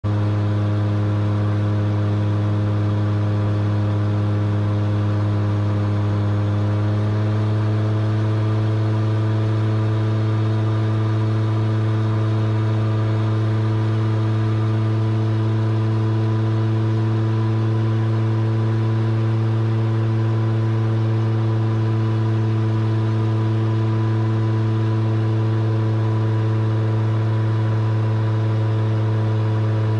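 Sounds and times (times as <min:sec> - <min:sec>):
light aircraft engine droning: 0:00.1 - 0:29.9.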